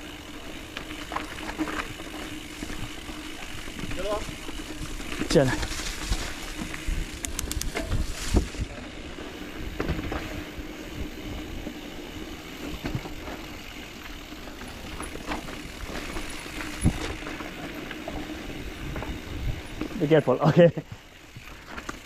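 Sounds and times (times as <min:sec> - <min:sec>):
bike tyres rumbling on dirt: 0:00.0 - 0:22.0
bike knocks and rattles: 0:00.6 - 0:08.6, 0:09.6 - 0:10.5, 0:12.6 - 0:22.0.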